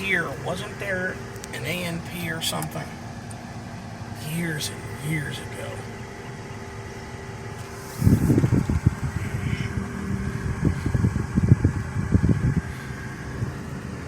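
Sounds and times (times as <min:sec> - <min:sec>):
car interior hum: 0:00.0 - 0:14.0
low rumbling and buffeting: 0:00.0 - 0:14.0.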